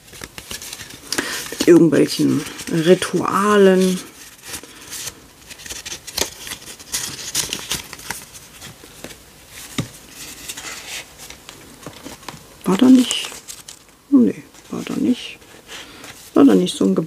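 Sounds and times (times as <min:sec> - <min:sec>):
stiff paper rustling: 0:00.0 - 0:16.4.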